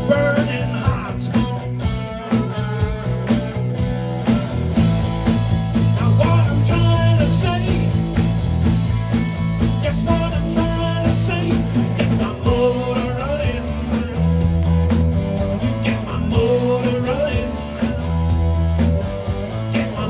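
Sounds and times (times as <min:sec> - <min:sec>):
bass line: 0:00.0 - 0:20.0
drums: 0:00.0 - 0:20.0
electric guitar: 0:00.0 - 0:20.0.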